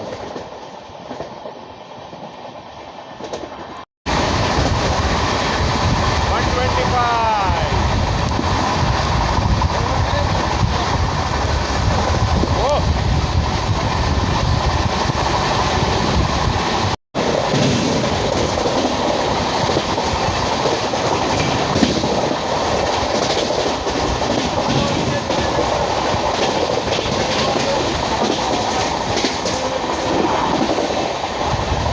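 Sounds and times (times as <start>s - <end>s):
train rumble and rail noise: 0.0s - 31.9s.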